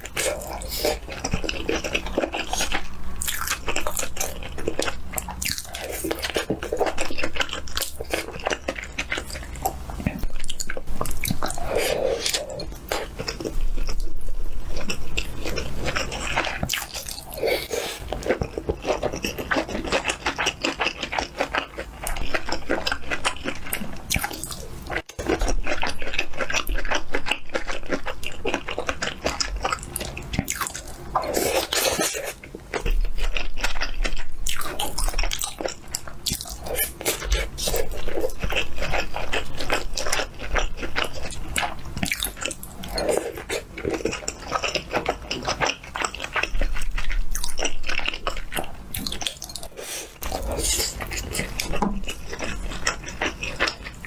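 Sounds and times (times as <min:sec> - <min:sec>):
close chewing and biting: 0:00.0 - 0:54.0.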